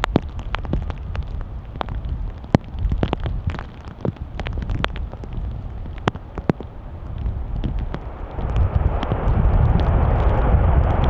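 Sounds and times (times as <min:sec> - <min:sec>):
heavy rain rumble: 0:00.0 - 0:11.0
raindrops clicking on microphone: 0:00.0 - 0:11.0.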